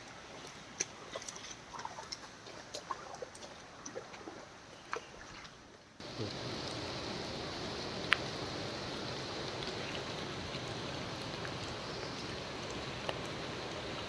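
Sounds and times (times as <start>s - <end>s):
rush of water: 0.0s - 14.0s.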